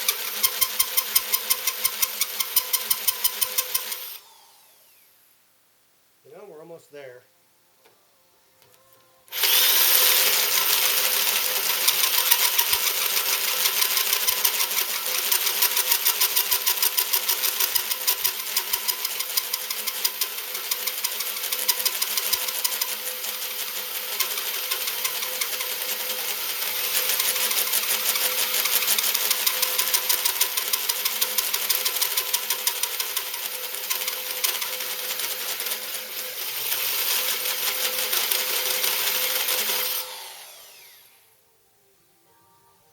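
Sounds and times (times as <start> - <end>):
hole saw cutting metal: 0.0 - 4.8, 9.3 - 41.1.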